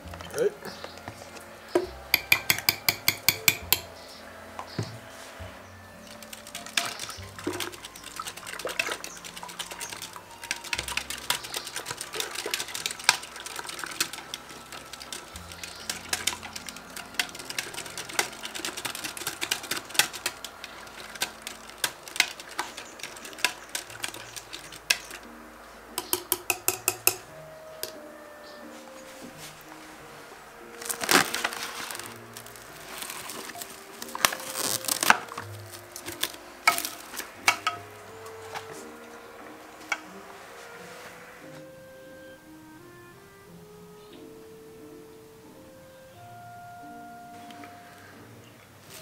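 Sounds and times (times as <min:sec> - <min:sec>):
soft background music: 0:00.0 - 0:49.0.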